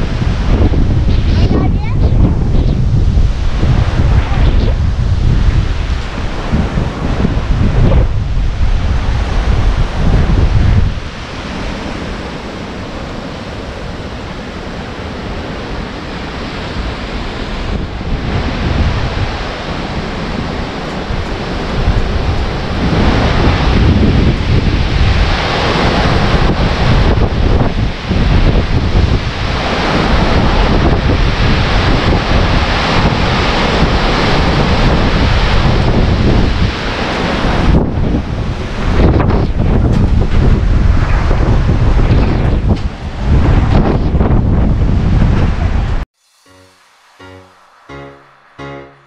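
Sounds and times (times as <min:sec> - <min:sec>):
wind rushing: 0:00.0 - 0:14.3, 0:15.2 - 0:49.0
wind buffeting microphone: 0:00.0 - 0:46.1.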